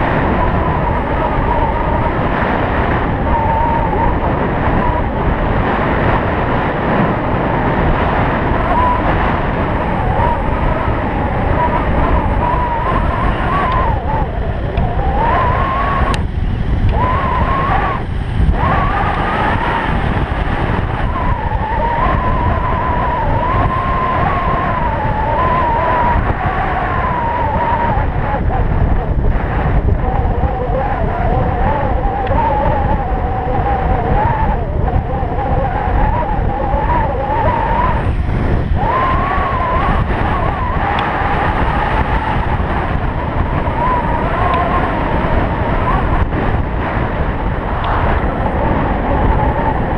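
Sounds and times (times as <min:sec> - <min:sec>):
wind rush on microphone: 0:00.0 - 0:49.9.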